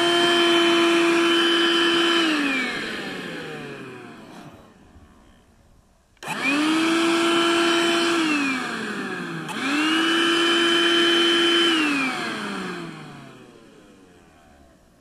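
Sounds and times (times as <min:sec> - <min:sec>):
vacuum cleaner motor whining: 0:00.0 - 0:04.8, 0:06.2 - 0:15.0.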